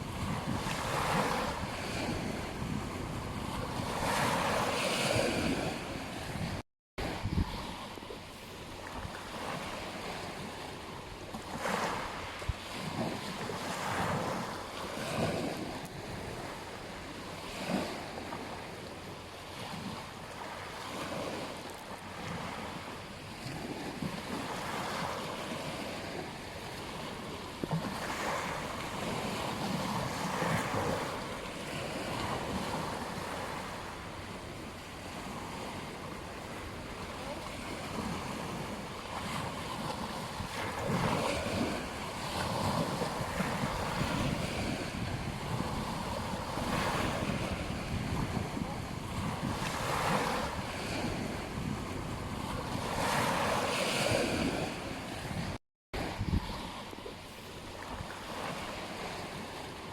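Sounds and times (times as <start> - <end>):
wind buffeting microphone: 0.0 - 16.8, 23.3 - 59.9
ocean waves washing onto beach: 0.0 - 59.9.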